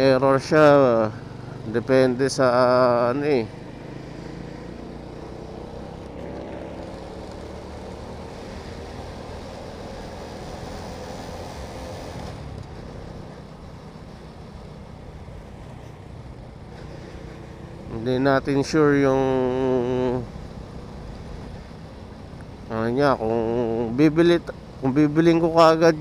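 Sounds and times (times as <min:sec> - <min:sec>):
motorcycle engine running: 0:00.0 - 0:26.0
road noise: 0:00.0 - 0:26.0.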